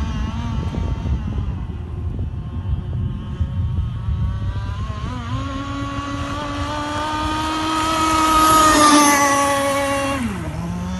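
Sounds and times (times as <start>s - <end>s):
model boat engine whining: 0.0s - 10.9s.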